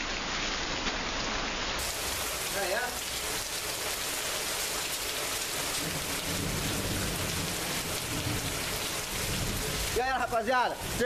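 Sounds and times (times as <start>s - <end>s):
steady rain pouring: 0.0s - 11.0s.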